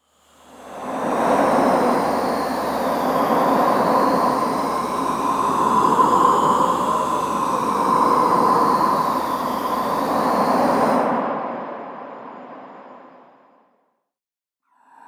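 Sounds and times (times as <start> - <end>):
eerie whistling wind: 0.0 - 13.6.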